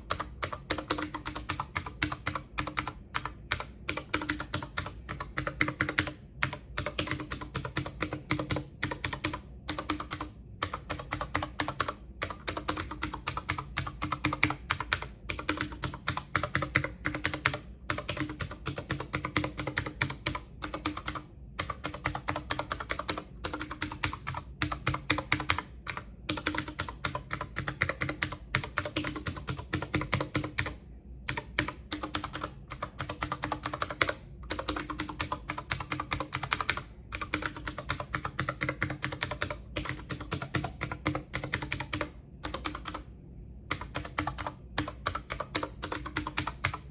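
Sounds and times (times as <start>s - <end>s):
keyboard typing: 0.0s - 46.9s.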